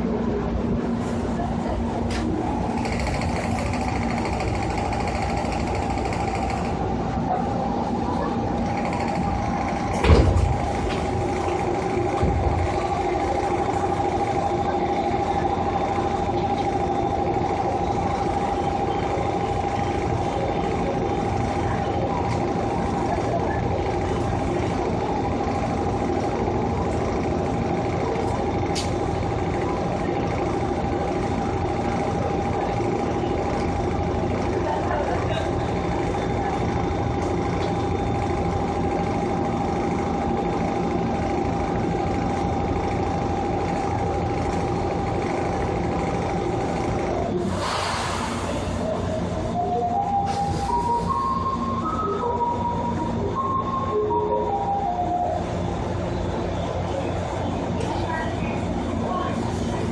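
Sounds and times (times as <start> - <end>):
wheels rumbling on rails: 0.0 - 59.9
electric train motor whine: 2.4 - 59.9.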